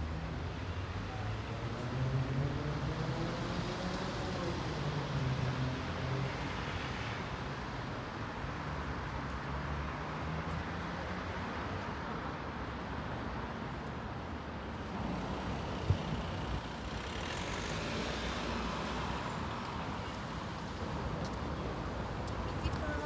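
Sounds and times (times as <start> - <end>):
hum of city traffic: 0.0 - 23.0.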